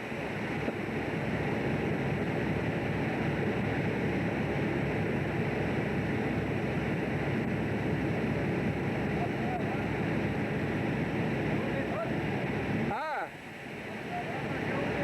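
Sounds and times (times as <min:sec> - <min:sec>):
boat engine: 0:00.0 - 0:15.0.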